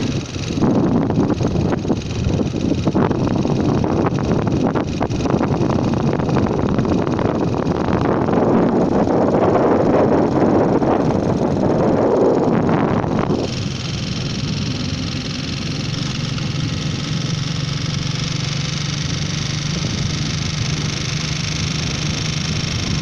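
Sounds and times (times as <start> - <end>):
vehicle engine hum: 0.0 - 23.0
wind buffeting microphone: 0.0 - 23.0.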